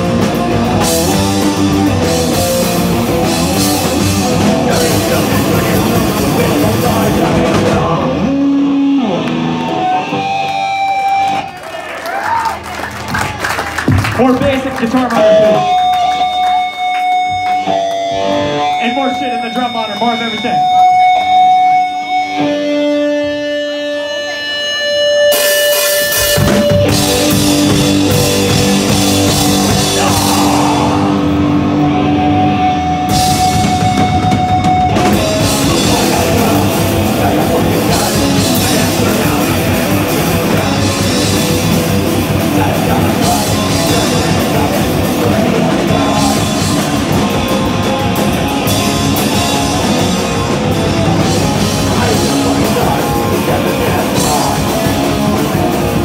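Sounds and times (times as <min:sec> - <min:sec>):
drum kit: 0:00.0 - 0:11.5, 0:12.6 - 0:23.2, 0:24.2 - 0:56.0
held electric guitar notes: 0:00.0 - 0:11.6, 0:15.1 - 0:56.0
live rock band: 0:00.0 - 0:56.0.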